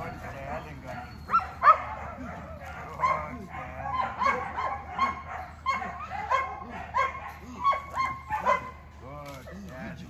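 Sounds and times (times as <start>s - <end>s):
dog barking: 0.0s - 8.8s.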